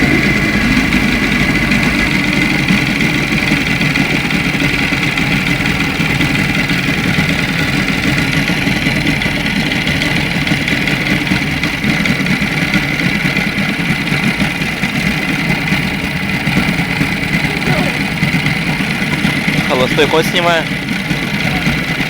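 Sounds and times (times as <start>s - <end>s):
outboard motor idling with knock: 0.0s - 22.0s.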